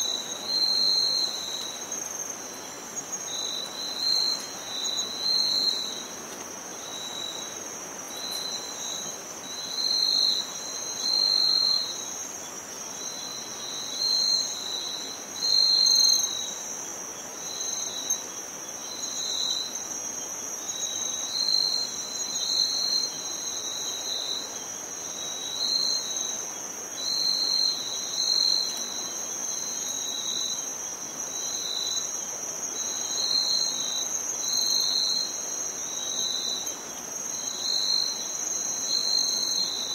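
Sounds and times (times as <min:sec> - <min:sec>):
high-pitched insect trill: 0:00.0 - 0:39.9
lower insect chirping: 0:00.0 - 0:39.9.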